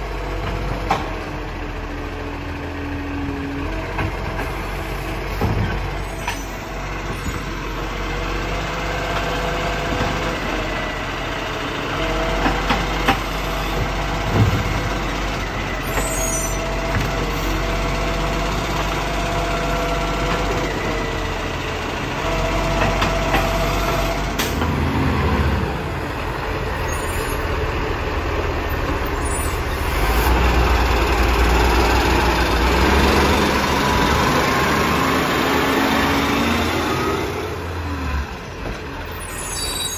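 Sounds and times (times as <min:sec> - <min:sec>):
garbage truck engine running: 0:00.0 - 0:39.4.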